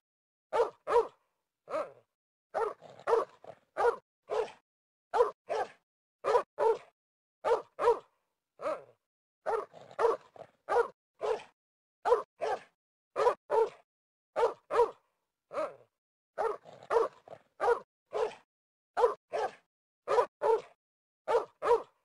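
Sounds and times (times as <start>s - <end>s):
dog barking: 0.5s - 22.0s.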